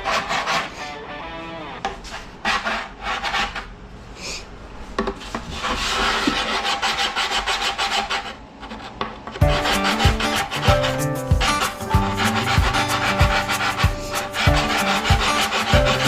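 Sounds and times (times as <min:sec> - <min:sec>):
hand tool scraping foam: 0:00.0 - 0:00.8, 0:02.0 - 0:03.6, 0:05.2 - 0:16.0.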